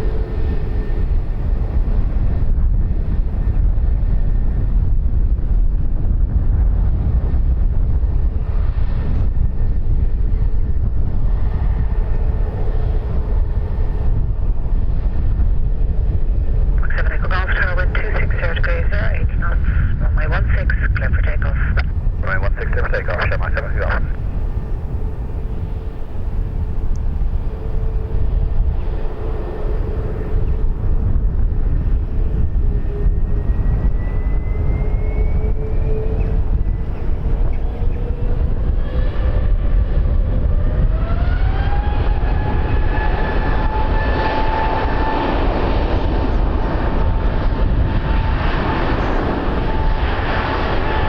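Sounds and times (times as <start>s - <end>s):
aircraft engines rumbling: 0.0s - 51.0s
engine whine climbing in pitch: 0.0s - 51.0s.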